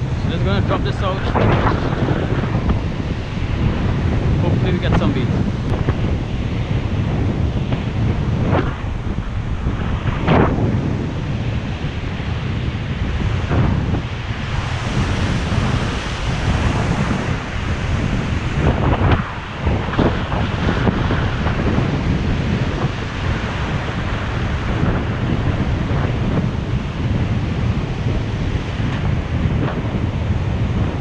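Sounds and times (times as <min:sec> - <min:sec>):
ocean surf breaking: 0:00.0 - 0:31.0
wind buffeting microphone: 0:00.0 - 0:31.0.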